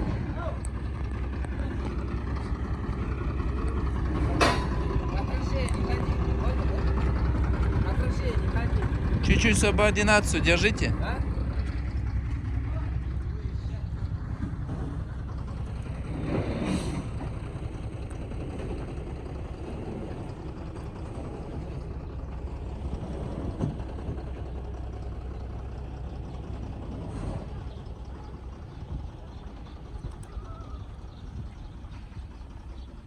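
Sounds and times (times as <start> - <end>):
heavy vehicle engine rumbling: 0.0 - 33.0.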